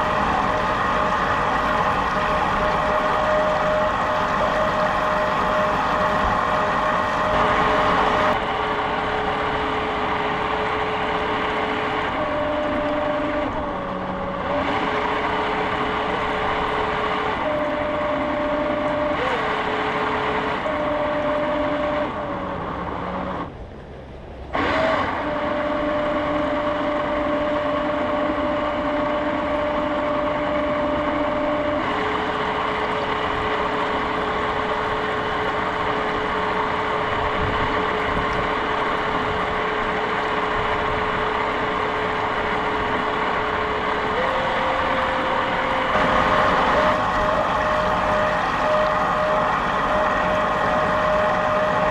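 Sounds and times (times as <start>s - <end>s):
jet boat motor whining: 0.0s - 51.9s.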